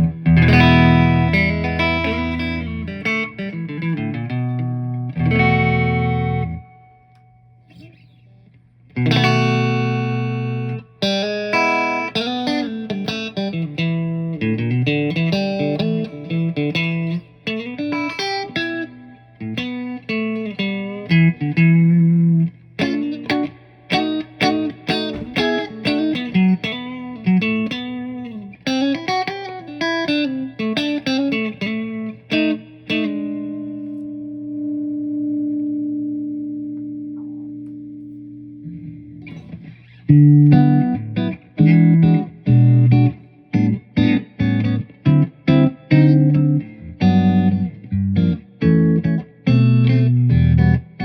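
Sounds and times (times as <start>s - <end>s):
electric guitar through an amp: 0.0s - 51.0s.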